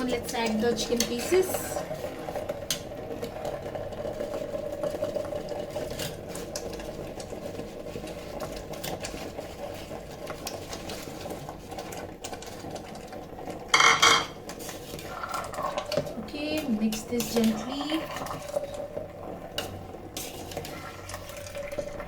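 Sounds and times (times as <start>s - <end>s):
electric kettle hum: 0.0s - 22.0s.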